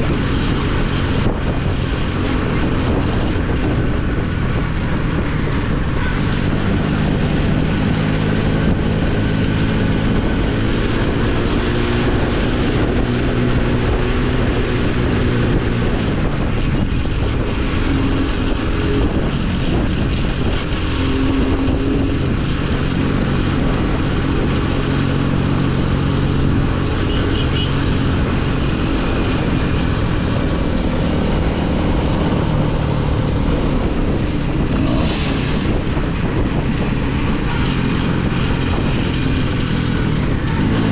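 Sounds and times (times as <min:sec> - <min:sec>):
rushing ride noise: 0:00.0 - 0:40.9.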